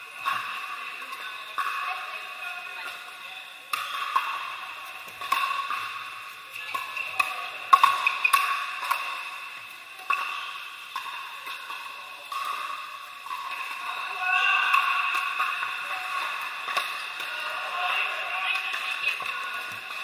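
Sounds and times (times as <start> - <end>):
murmur of voices: 0.0 - 20.0.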